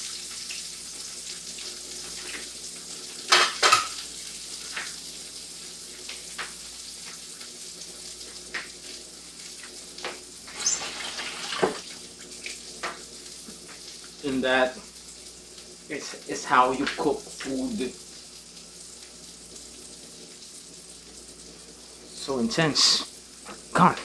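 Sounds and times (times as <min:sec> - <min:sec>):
sausages sizzling in a frying pan: 0:00.0 - 0:24.0.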